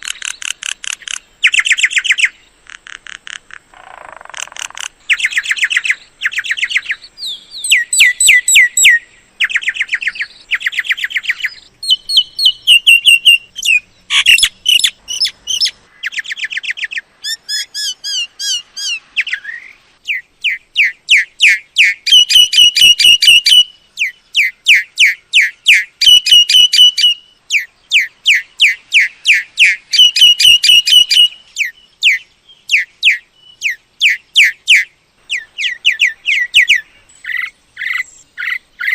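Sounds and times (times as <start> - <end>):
myna whistled calls: 3.9 - 38.9.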